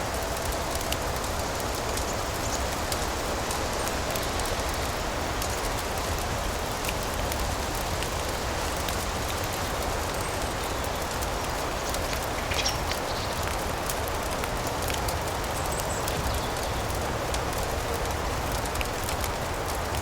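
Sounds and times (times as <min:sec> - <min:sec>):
fireplace crackling and popping: 0:00.0 - 0:20.0
rain hissing: 0:00.0 - 0:20.0.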